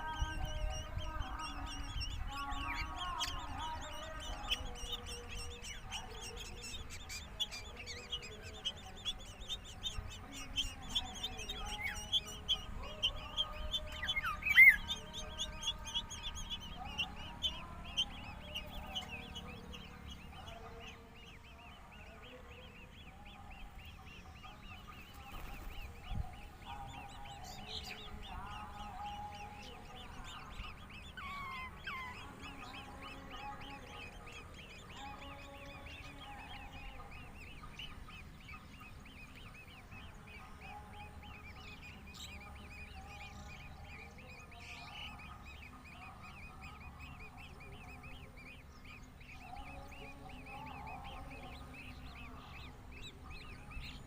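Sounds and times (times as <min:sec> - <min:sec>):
birds chirping: 0:00.0 - 0:54.0
lower longer bird calls: 0:00.0 - 0:54.0.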